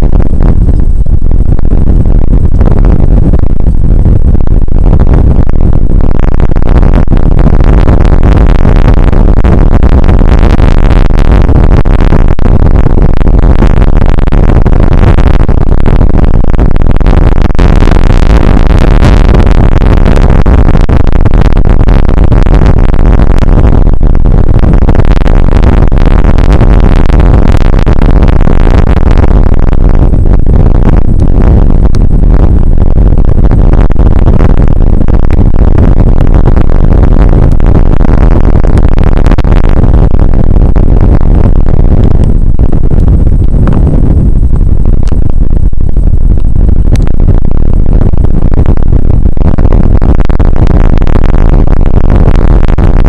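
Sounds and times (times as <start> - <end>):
rain and wind on microphone: 0.0 - 53.0.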